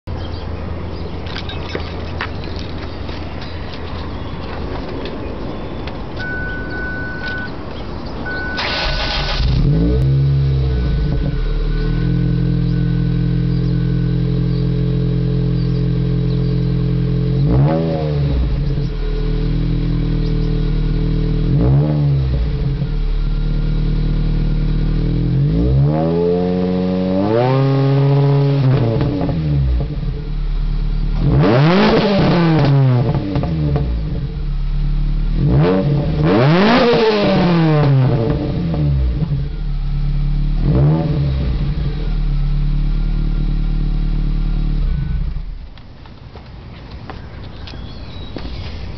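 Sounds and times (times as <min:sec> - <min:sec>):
car engine idling and revving: 0:00.1 - 0:48.9.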